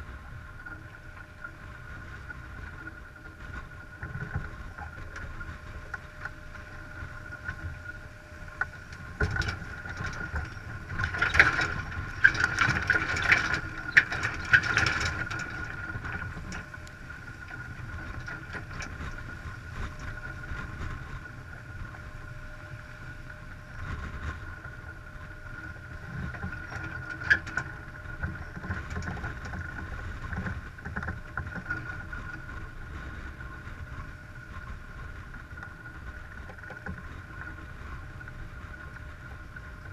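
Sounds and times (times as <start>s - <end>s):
water rushing along hull: 0.0s - 39.9s
wind on microphone: 0.0s - 39.9s.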